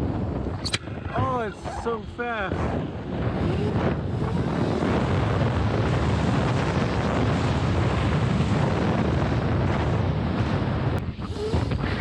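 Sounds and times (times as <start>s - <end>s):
heavy low rumble: 0.0s - 12.0s
wind rushing over microphone: 0.0s - 12.0s.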